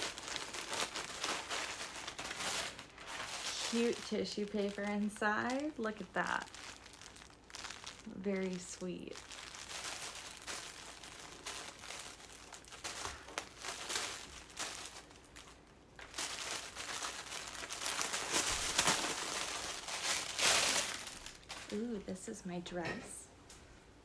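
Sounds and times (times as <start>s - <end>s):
tissue paper rustling and crinkling: 0.0s - 22.3s.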